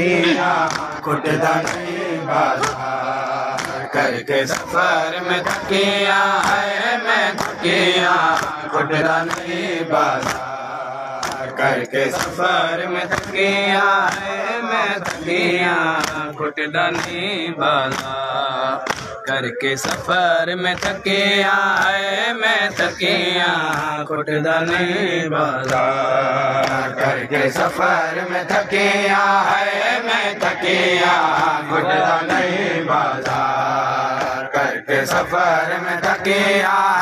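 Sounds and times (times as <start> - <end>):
men chanting a lament: 0.0 - 37.0.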